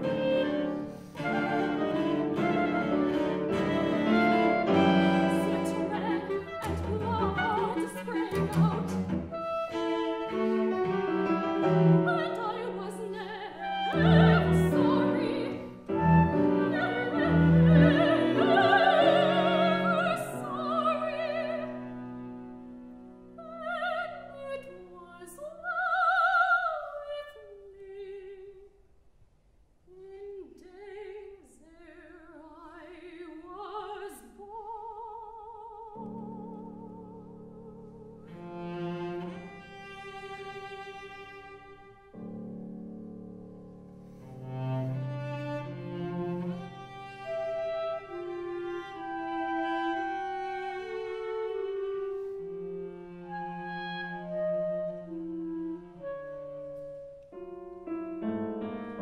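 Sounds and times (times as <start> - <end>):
soprano singing: 0.0 - 22.6, 23.3 - 28.8, 29.9 - 42.4, 44.4 - 59.0
clarinet cello and piano: 0.0 - 24.7, 36.0 - 59.0.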